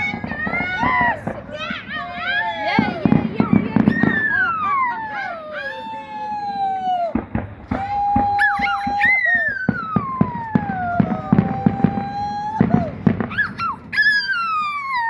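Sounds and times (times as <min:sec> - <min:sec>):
firework bangs and crackles: 0:00.0 - 0:15.0
firework whistling tones: 0:00.0 - 0:15.0.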